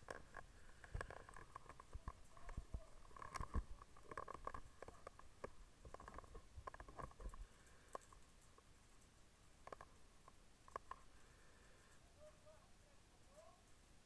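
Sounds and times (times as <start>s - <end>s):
faint clicks and light knocks: 0.0s - 12.0s.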